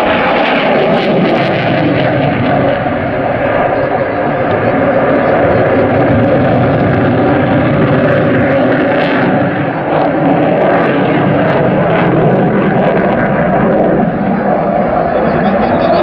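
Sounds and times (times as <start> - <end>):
fighter jet noise overhead: 0.0 - 16.0.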